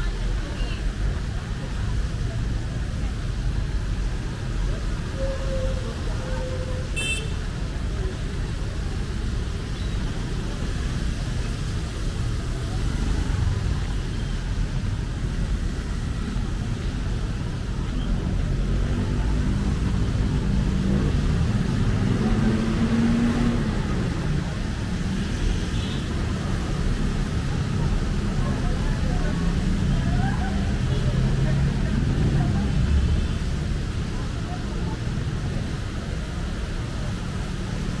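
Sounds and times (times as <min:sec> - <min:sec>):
rumble of passing cars: 0:00.0 - 0:38.0.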